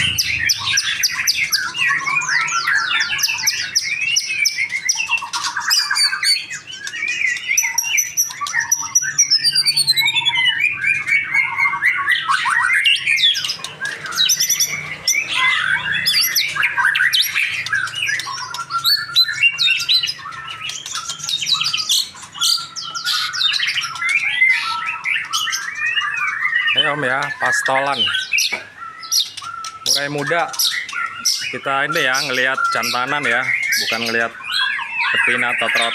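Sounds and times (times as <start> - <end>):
bird singing whistles and trills: 0.0 - 35.9.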